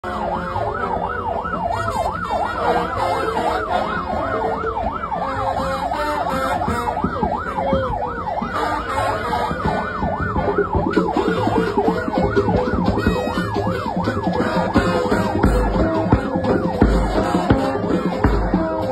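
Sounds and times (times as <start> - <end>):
electronic siren yelping: 0.0 - 18.9.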